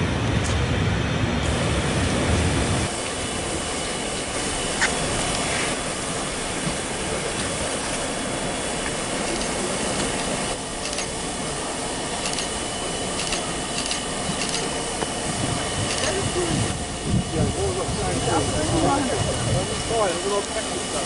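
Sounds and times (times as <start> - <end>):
steam locomotives rolling: 0.0 - 21.0
steam hissing: 1.4 - 21.0.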